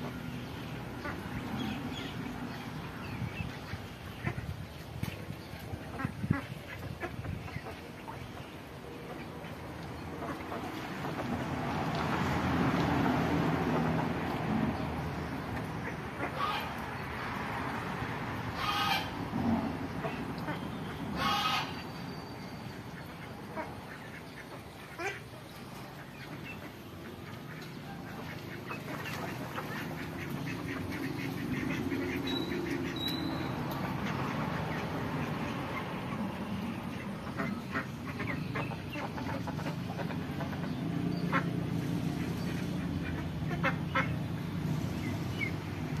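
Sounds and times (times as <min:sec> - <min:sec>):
ducks quacking: 0:00.9 - 0:02.2, 0:03.2 - 0:04.7, 0:05.8 - 0:14.2, 0:15.5 - 0:17.5, 0:18.5 - 0:21.8, 0:23.0 - 0:46.0.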